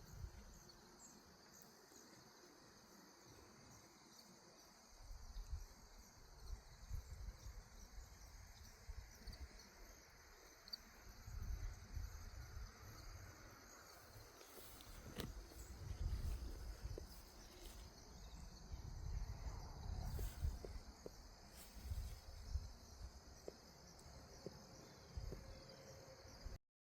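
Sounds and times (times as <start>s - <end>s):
insects trilling: 0.0s - 26.6s.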